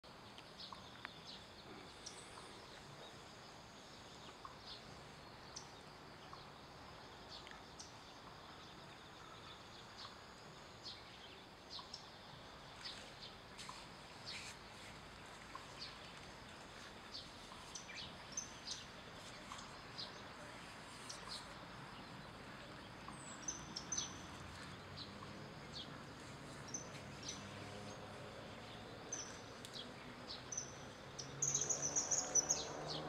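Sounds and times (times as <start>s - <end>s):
faint outdoor ambience: 0.0s - 33.0s.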